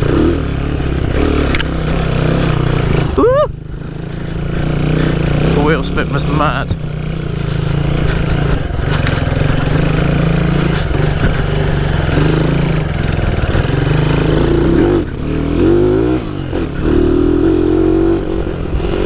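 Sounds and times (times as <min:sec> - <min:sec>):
small motorcycle engine under load: 0:00.0 - 0:19.0.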